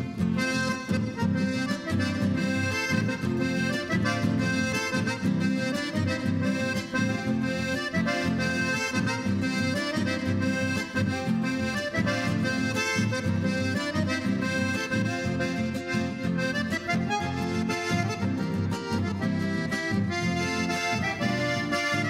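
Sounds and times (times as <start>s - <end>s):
accordion folk music: 0.0s - 22.0s.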